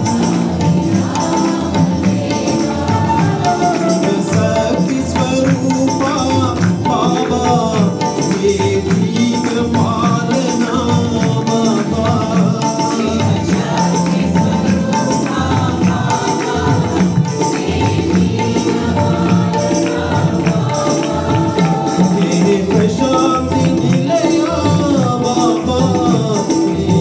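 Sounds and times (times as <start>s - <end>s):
devotional song singing: 0.0s - 27.0s
jingling percussion beat: 0.0s - 27.0s.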